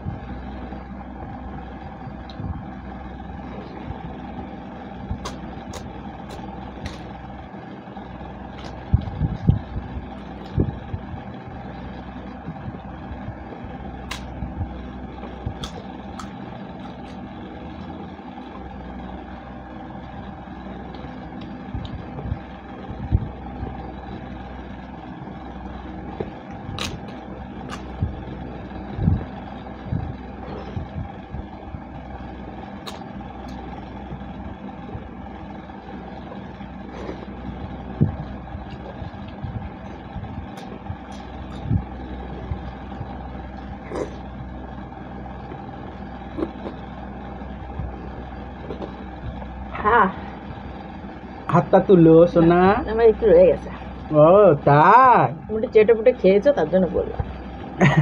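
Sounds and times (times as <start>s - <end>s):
steady background hum: 0.0s - 58.0s
people chewing food: 2.2s - 51.5s.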